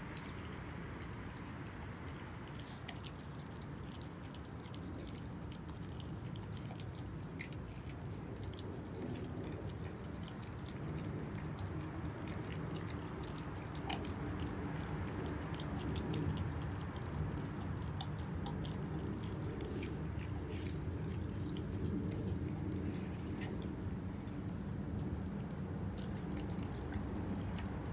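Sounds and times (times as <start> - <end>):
low background hum: 0.0 - 27.9
puppy chewing meat: 0.0 - 27.9.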